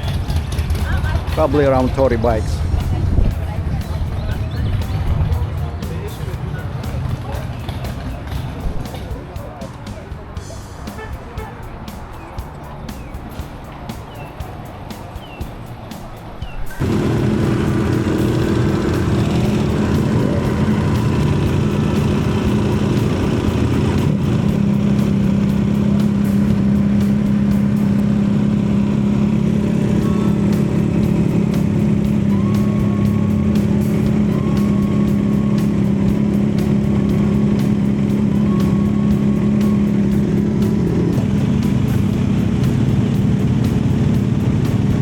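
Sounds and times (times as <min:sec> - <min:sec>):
motorcycle engine running: 0:00.0 - 0:10.3, 0:16.7 - 0:45.0.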